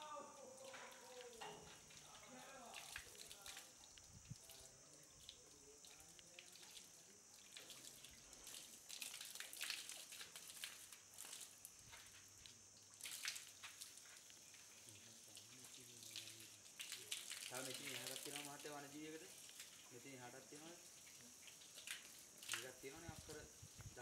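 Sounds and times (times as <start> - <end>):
drips and splashes: 0.0 - 24.0
hose water spraying and splattering: 0.0 - 24.0.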